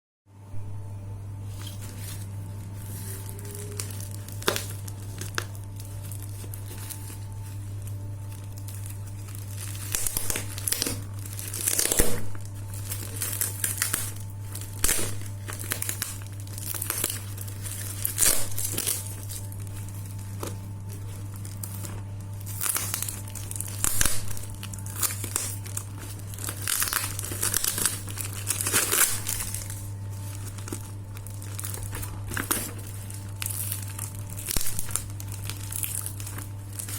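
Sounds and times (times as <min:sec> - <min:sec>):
steady low hum: 0:00.3 - 0:36.9
packaging crinkling and tearing: 0:01.5 - 0:36.9.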